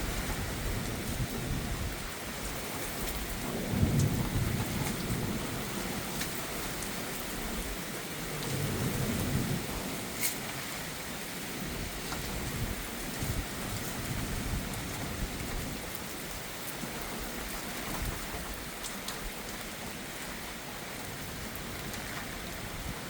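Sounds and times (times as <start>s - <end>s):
heavy rain: 0.0s - 23.0s
raindrops ticking near microphone: 0.0s - 23.0s.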